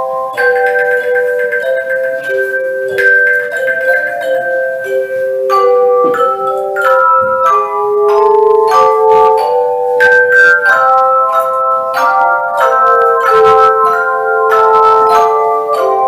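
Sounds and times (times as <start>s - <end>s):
metal chimes ringing: 0.0s - 16.0s.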